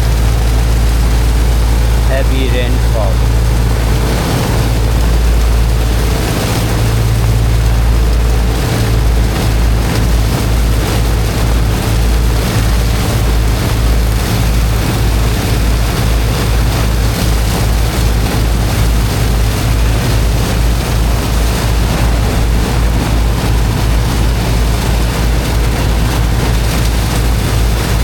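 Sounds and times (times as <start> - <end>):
water jetting: 0.0 - 28.0
water pump engine running: 0.0 - 28.0.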